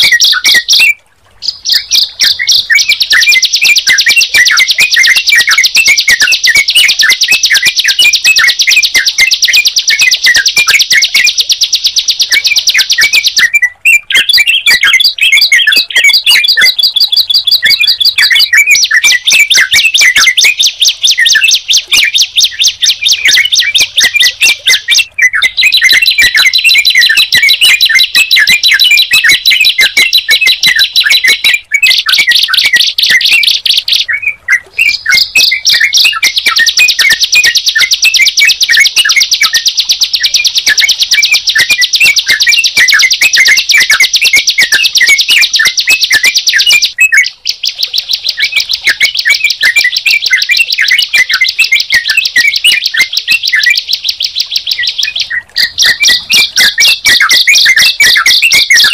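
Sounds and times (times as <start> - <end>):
fast high-pitched bird chattering: 0.0 - 58.9.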